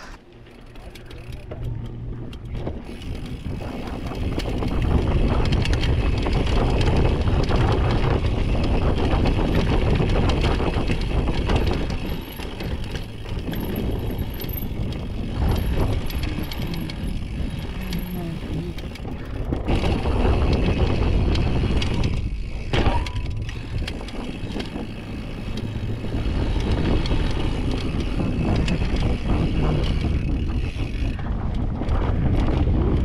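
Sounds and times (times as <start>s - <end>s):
bike clattering and rattling: 0.0s - 33.0s
low rumble: 1.2s - 33.0s.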